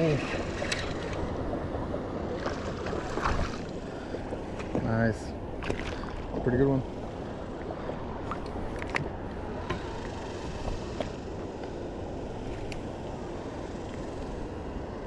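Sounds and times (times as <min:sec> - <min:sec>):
flowing river water: 0:00.0 - 0:15.0
wind: 0:00.0 - 0:15.0.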